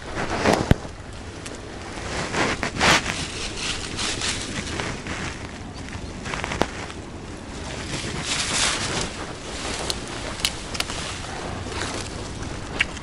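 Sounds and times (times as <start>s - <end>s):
rustling: 0.0s - 13.0s
wind buffeting microphone: 0.0s - 13.0s.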